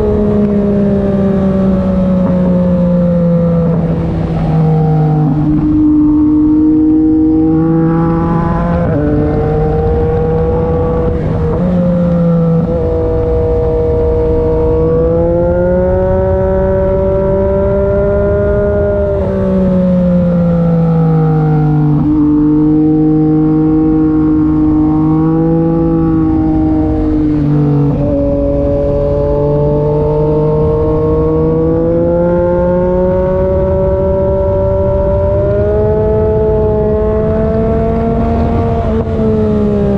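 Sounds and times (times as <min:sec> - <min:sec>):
motorcycle exhaust note: 0:00.0 - 0:39.9
wind and road noise: 0:00.0 - 0:39.9.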